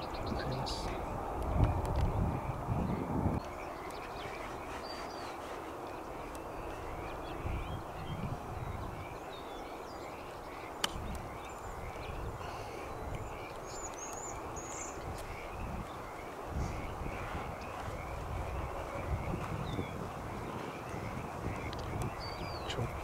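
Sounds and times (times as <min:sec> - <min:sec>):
bird chirping: 0:00.0 - 0:23.0
wind rumbling on microphone: 0:00.0 - 0:23.0.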